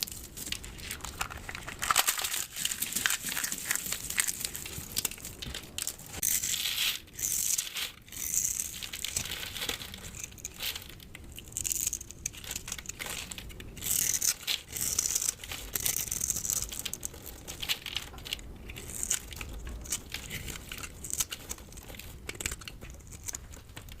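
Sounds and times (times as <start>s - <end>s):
soap crackling and crumbling: 0.0s - 24.0s.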